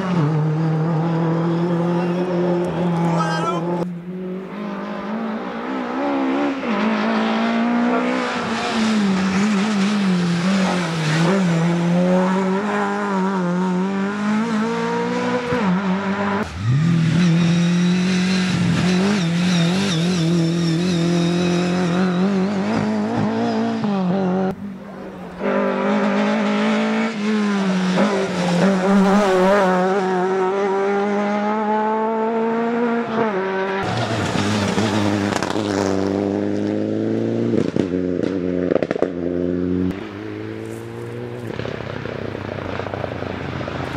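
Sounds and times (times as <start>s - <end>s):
rally car engines at high revs: 0.0s - 43.9s.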